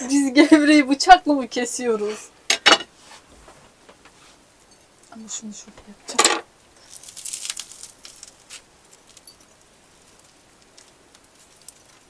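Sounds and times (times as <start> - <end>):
food crackling rustle: 1.2 - 12.0.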